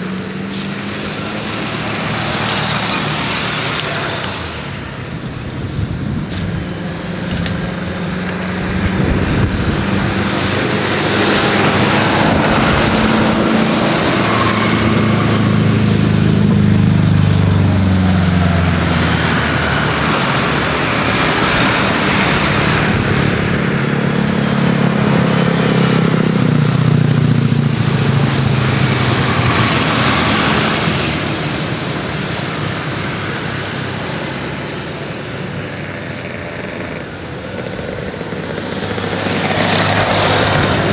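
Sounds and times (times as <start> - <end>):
jet airliner engines passing: 0.0 - 40.9.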